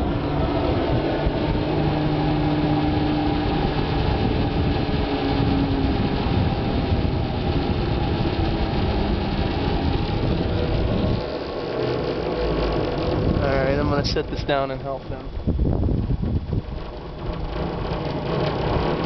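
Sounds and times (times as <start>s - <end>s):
pulley wheels rolling on cable: 2.6s - 19.0s.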